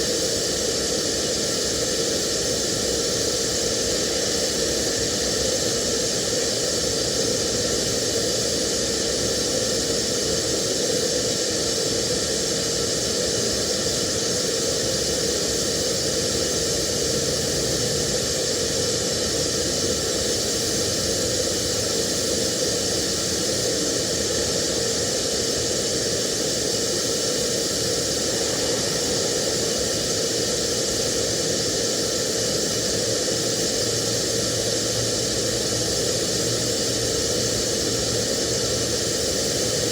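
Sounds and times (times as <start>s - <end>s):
constant hum: 0.0s - 39.9s
welding arc hissing: 0.0s - 39.9s.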